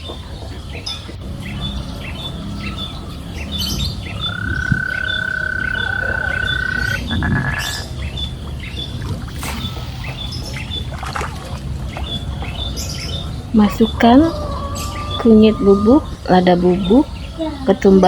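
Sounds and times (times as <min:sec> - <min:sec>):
bird chirping: 0:00.0 - 0:18.0
low steady background noise: 0:00.0 - 0:18.0.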